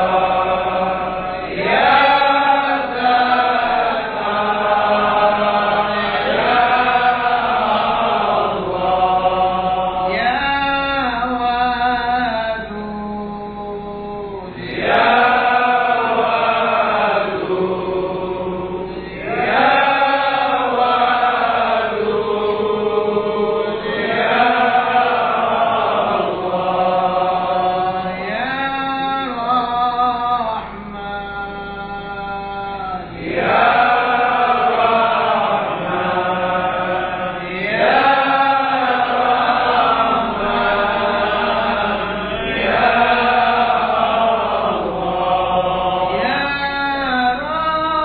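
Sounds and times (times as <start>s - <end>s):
man chanting: 0.0s - 48.0s.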